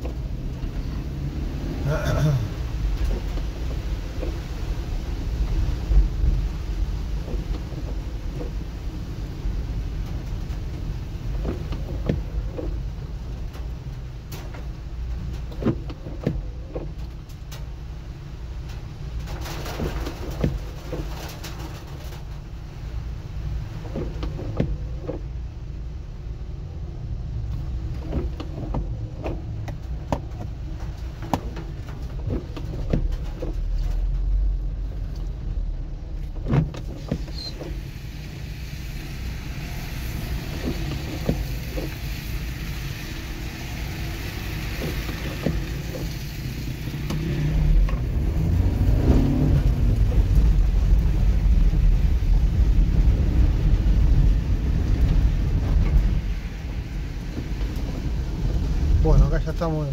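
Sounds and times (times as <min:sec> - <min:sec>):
car engine and wet road rumble: 0:00.0 - 0:59.9.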